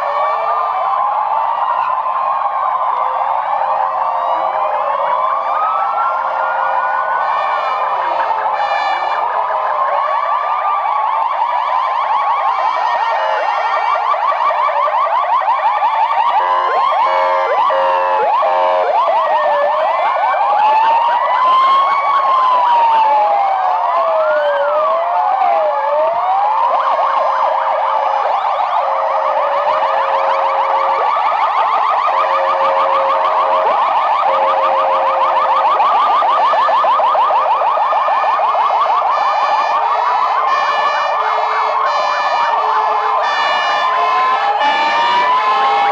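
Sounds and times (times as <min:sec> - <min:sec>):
ambulance sirens wailing: 0:00.0 - 0:45.9
siren rapid yelps: 0:00.0 - 0:45.9
two-tone siren: 0:00.0 - 0:45.9.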